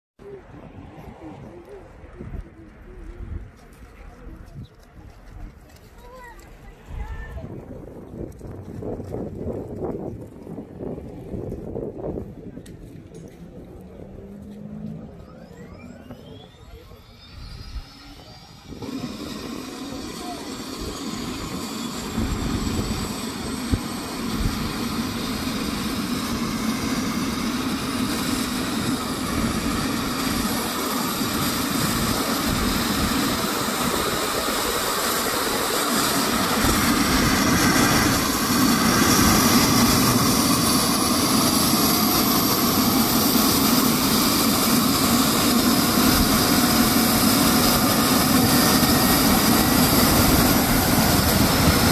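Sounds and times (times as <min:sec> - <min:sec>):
helicopter turbine engines starting: 0:00.2 - 0:51.9.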